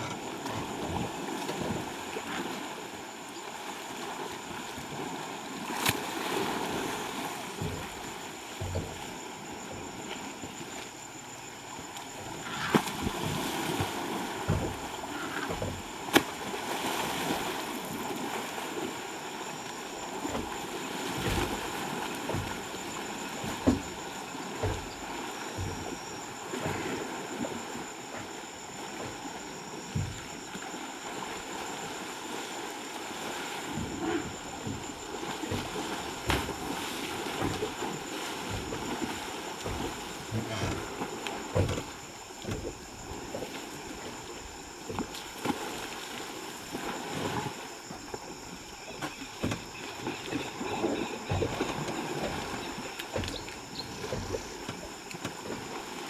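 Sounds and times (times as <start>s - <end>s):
river water splashing: 0.0s - 56.0s
steady watery hiss: 0.0s - 56.0s.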